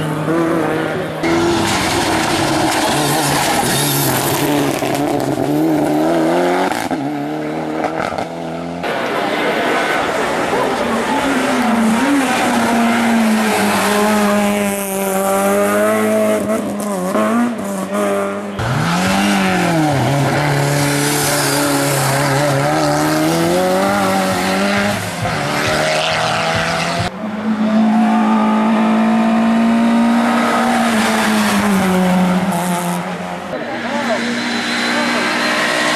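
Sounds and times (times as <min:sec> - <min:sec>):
racing car engines at full throttle: 0:00.0 - 0:35.9.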